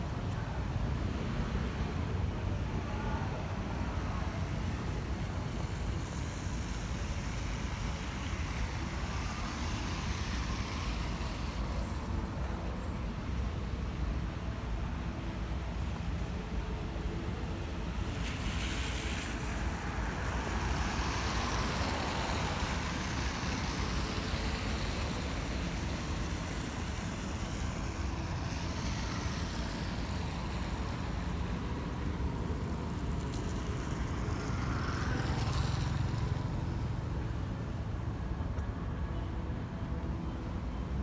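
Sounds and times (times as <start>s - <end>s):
traffic on wet road: 0.0s - 41.0s.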